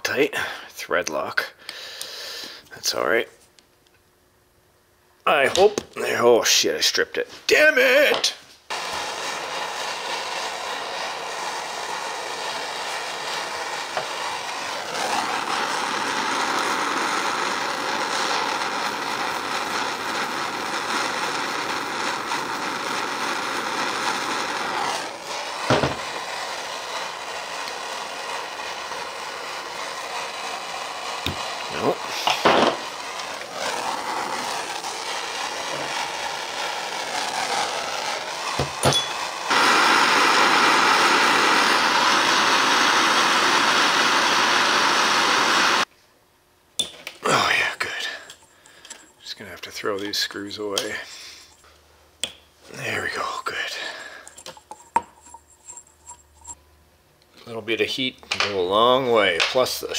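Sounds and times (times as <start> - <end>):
heat gun blowing: 1.6 - 2.7, 7.5 - 45.9, 47.1 - 51.8, 52.7 - 56.6.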